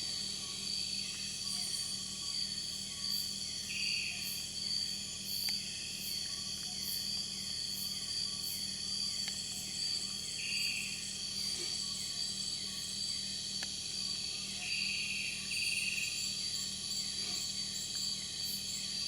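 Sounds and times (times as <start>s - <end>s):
high-pitched insect drone: 0.2s - 19.0s.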